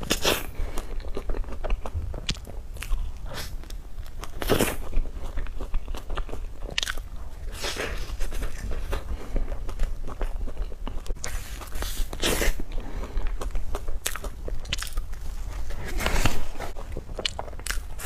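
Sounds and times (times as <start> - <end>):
wet chewing and smacking: 0.0 - 15.7, 16.7 - 18.0.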